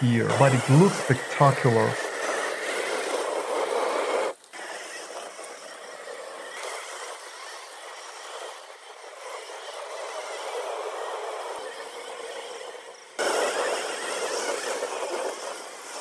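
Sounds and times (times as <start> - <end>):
toy car drivetrain noise: 0.0 - 16.0.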